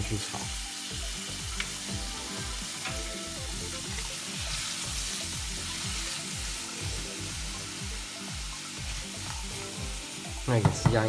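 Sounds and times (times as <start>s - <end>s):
vegetables sizzling in a saucepan: 0.0s - 11.0s.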